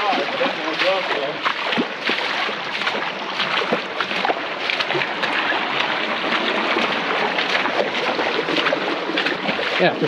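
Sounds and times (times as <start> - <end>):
creek water running over rocks: 0.0 - 10.0
splashing footsteps in water: 0.0 - 10.0.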